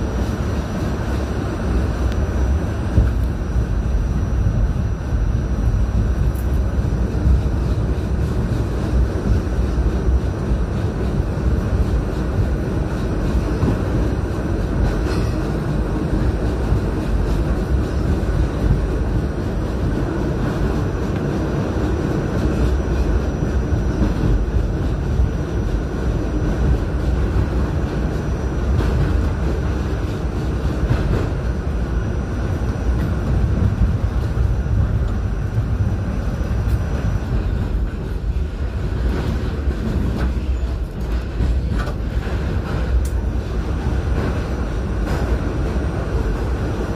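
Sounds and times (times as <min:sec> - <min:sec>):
subway wheels rumbling on rail: 0:00.0 - 0:46.9.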